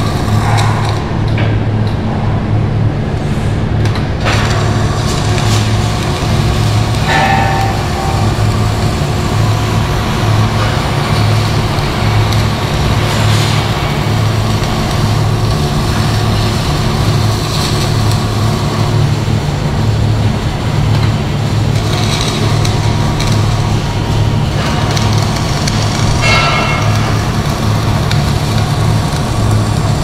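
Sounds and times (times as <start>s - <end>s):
heavy machinery droning: 0.0s - 30.0s.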